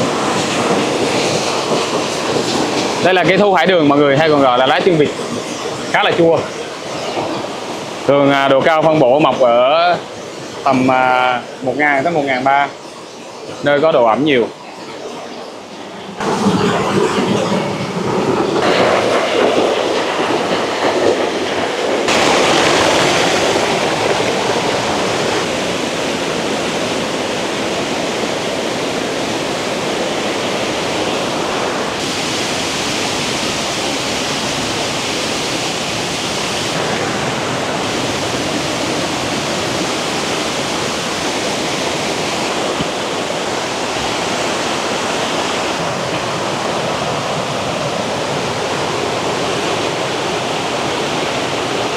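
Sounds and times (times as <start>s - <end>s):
stream rushing over rocks: 0.0s - 20.2s, 22.0s - 51.9s.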